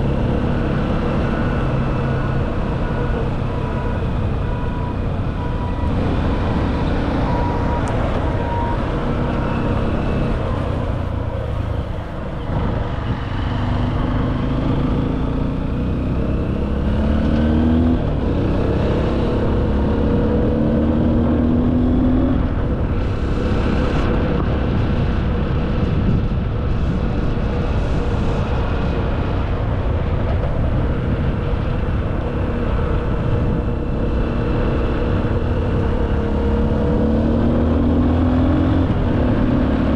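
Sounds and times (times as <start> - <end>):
vehicle engine accelerating: 0.0 - 39.9.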